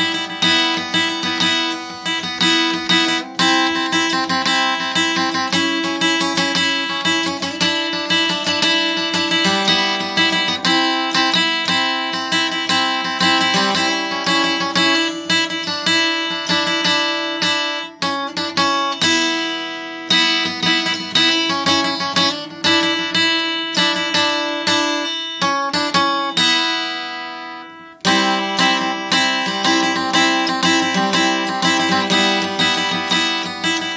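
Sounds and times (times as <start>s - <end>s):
acoustic guitar plucked notes: 0.0s - 33.9s.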